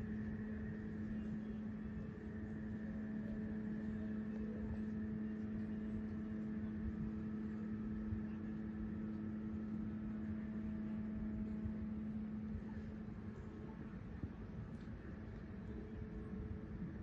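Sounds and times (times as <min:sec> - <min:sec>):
low street rumble: 0:00.0 - 0:17.0
steady mechanical hum: 0:00.0 - 0:17.0.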